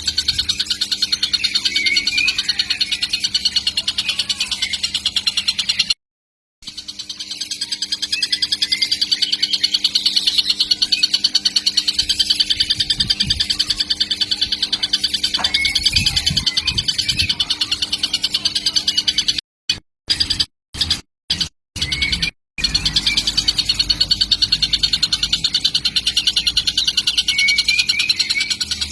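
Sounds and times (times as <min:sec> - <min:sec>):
kingfisher calling: 0:00.0 - 0:06.0, 0:06.6 - 0:19.4, 0:21.8 - 0:28.9.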